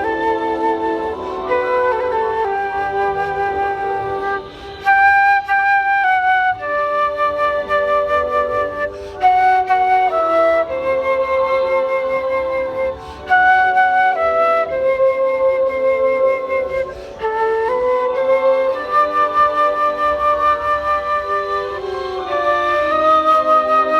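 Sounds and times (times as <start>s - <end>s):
slow flute-like melody: 0.0s - 23.9s.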